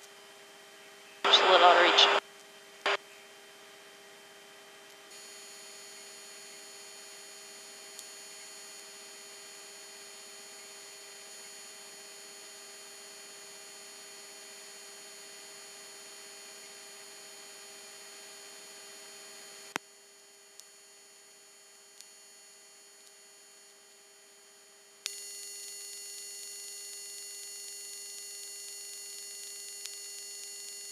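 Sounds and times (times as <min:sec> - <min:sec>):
electrical hum with whining tones: 0:00.0 - 0:30.9.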